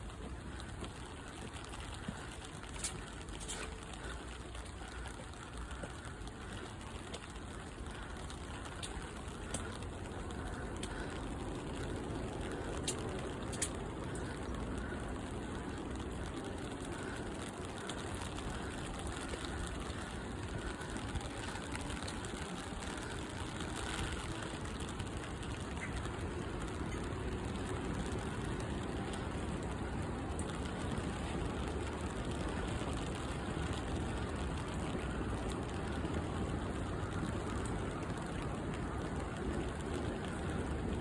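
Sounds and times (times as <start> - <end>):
outdoor rushing hiss and rumble: 0.0 - 41.0.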